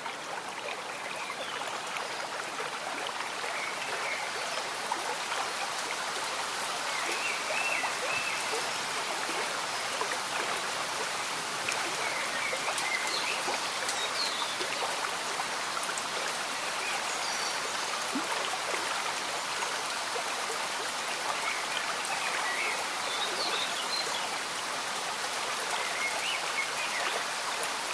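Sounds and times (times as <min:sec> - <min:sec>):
gentle rain: 0:00.0 - 0:27.9
stream bubbling and trickling: 0:00.0 - 0:27.9.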